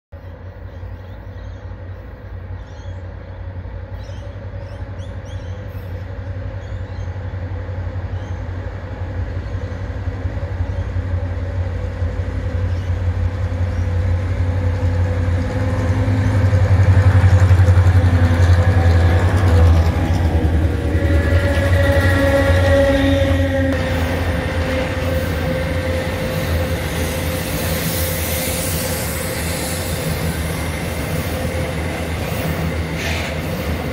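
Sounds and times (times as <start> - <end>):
diesel locomotive engines humming: 0.2 - 33.9.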